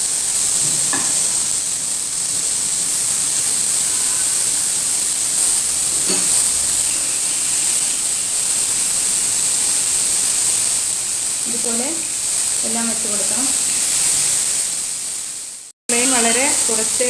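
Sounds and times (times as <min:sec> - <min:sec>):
chicken skewers sizzling in oil: 0:00.0 - 0:17.0.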